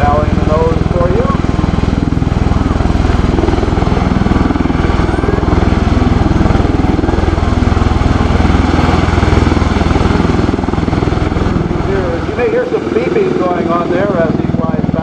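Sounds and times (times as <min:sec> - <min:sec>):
tilt-rotor aircraft hovering: 0:00.0 - 0:15.0.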